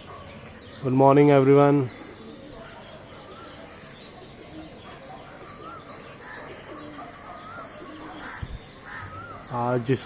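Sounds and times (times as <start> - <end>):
birds whistling calls: 1.7 - 10.0.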